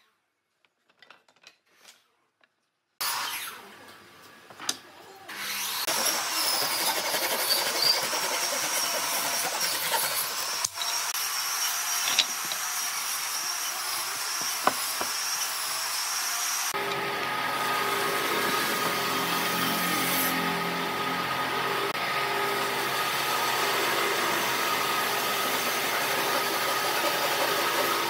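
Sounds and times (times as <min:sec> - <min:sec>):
hand saw cutting wood: 0:05.3 - 0:28.0.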